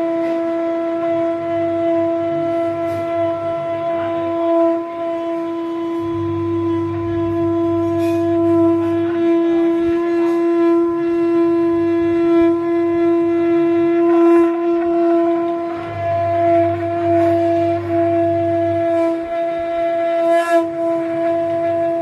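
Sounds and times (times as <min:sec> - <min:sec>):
conch shell blown: 0:00.0 - 0:22.0.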